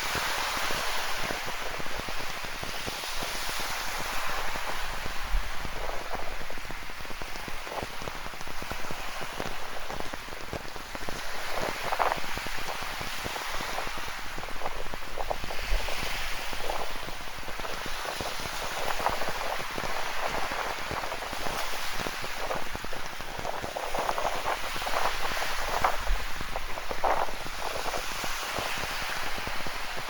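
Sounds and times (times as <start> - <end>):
ocean surf: 0.0 - 30.0
steady rain: 3.2 - 30.0.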